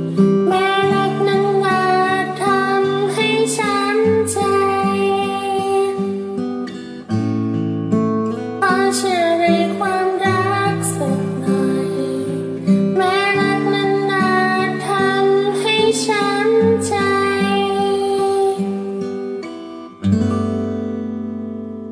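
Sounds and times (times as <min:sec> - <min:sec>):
person singing: 0:00.0 - 0:07.1, 0:08.6 - 0:19.4
acoustic guitar: 0:00.0 - 0:21.9.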